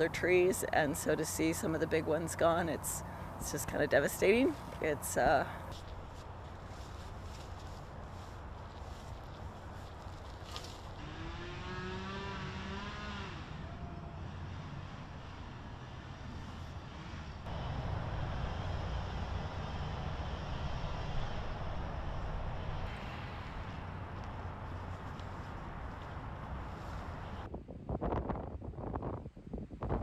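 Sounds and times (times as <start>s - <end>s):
outdoor low rumble: 0.0s - 27.5s.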